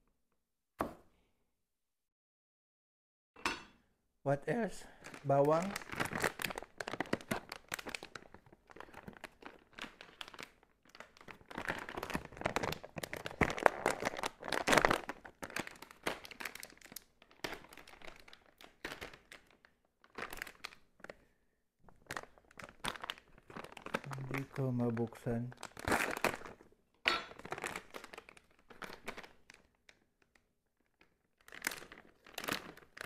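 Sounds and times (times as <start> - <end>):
plastic bag crinkling: 4.6 - 33.0.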